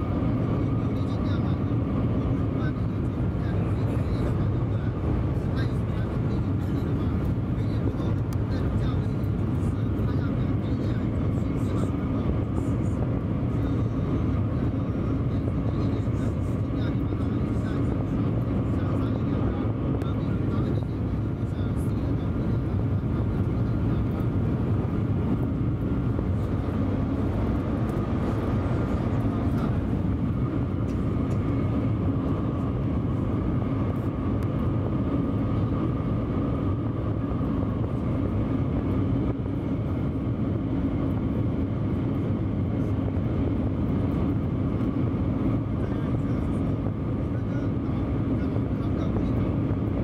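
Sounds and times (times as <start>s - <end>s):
train cabin low rumble: 0.0s - 40.3s
faint steady whine: 0.0s - 50.0s.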